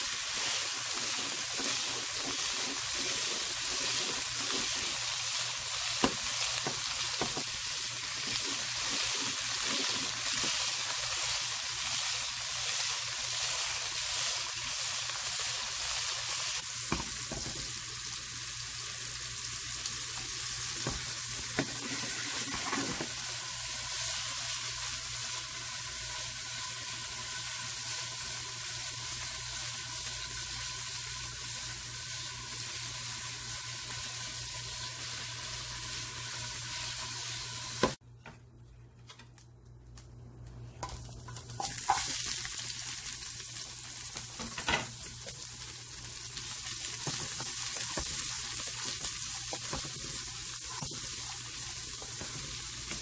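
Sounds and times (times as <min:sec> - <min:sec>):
oil sizzling in a frying pan: 0:00.0 - 0:38.0, 0:40.8 - 0:53.0.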